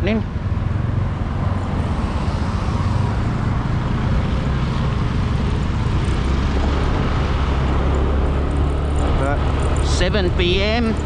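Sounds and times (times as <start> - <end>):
road noise: 0.0 - 11.0
wind rushing over microphone: 0.3 - 11.0.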